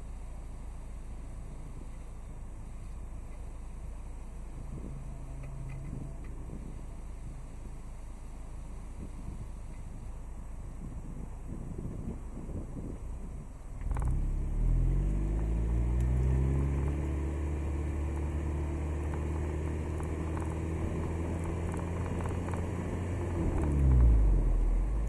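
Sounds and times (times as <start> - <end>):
car engine: 0.0 - 25.0
road noise: 0.0 - 25.0.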